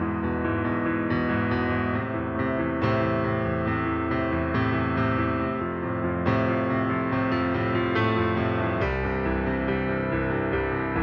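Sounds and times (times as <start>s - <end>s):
instrumental music with sustained chords: 0.0s - 11.0s.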